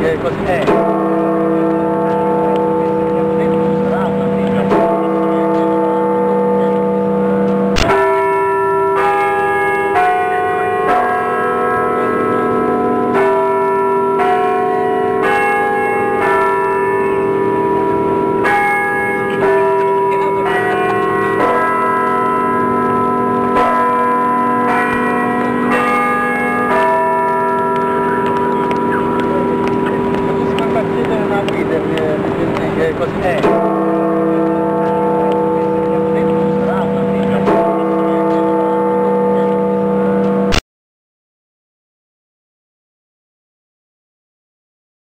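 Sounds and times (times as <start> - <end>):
temple bells ringing: 0.0 - 40.6.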